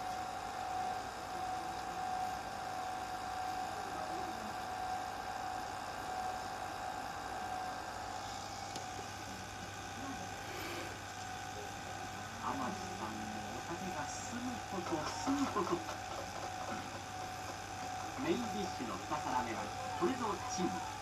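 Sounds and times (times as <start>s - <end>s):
videotape hiss and hum: 0.0s - 21.0s.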